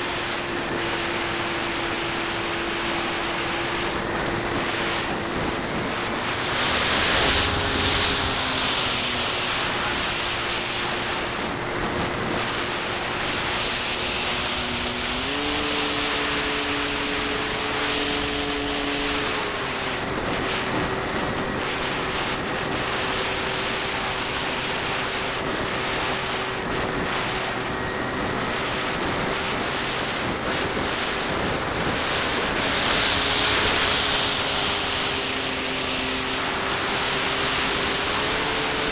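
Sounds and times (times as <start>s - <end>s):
electric motor and propeller hum: 0.0s - 38.9s
wind rush: 0.0s - 38.9s.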